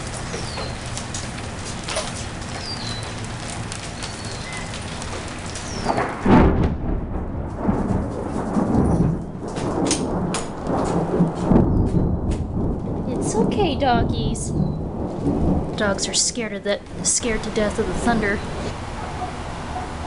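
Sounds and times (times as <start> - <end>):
thunder rumbling: 0.0 - 20.0
thunderclap: 0.0 - 20.0.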